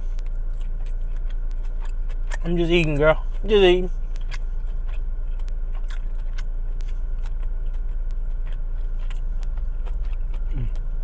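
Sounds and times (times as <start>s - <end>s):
chewing and crunching: 0.0s - 11.0s
low steady hum: 0.0s - 11.0s.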